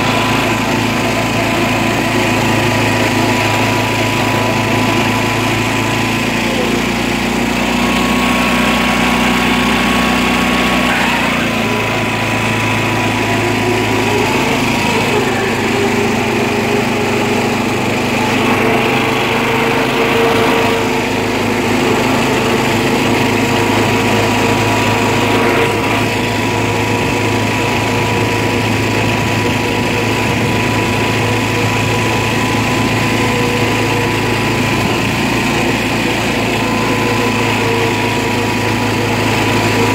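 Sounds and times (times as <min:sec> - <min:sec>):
riding lawn tractor engine running: 0:00.0 - 0:39.9.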